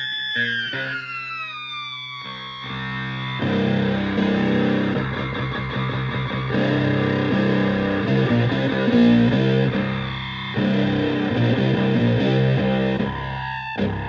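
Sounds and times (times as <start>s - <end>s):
fuzzy distorted electric guitar riff: 2.3s - 14.0s.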